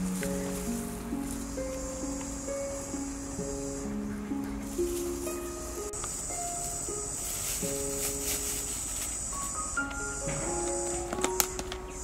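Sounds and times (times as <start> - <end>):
background music melody: 0.0 - 12.0
high insect buzz: 0.0 - 12.0.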